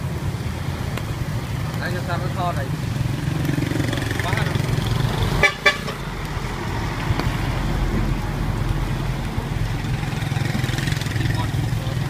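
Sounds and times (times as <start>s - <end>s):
low engine hum: 0.0s - 12.0s
street traffic: 0.0s - 12.0s.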